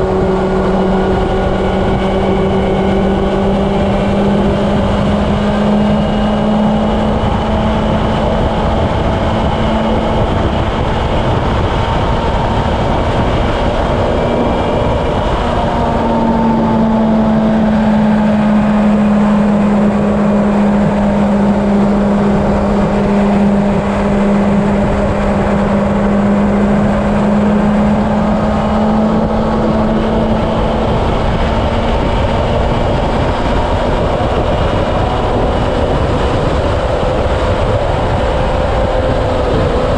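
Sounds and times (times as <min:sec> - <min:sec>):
heavy wind rush: 0:00.0 - 0:39.9
motorcycle engine hum: 0:00.0 - 0:39.9.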